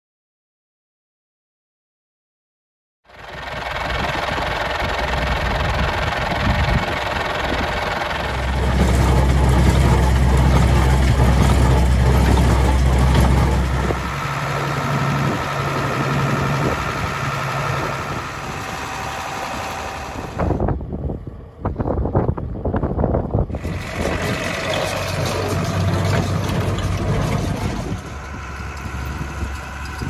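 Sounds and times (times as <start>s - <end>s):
tractor diesel engines idling: 3.1s - 21.7s, 22.4s - 30.0s.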